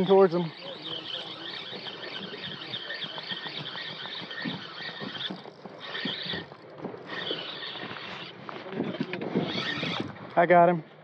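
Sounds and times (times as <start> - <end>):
fishing reel gears whining: 0.0 - 8.4, 9.0 - 10.2.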